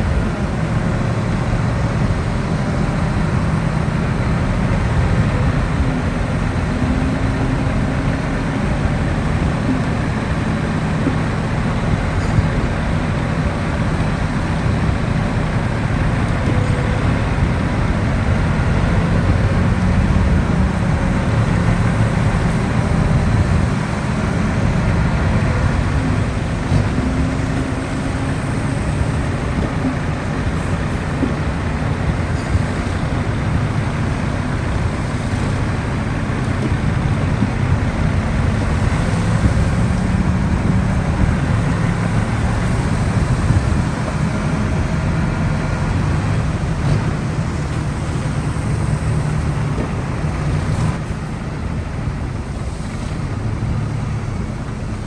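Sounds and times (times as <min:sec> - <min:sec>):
diesel machinery engine running: 0:00.0 - 0:55.0.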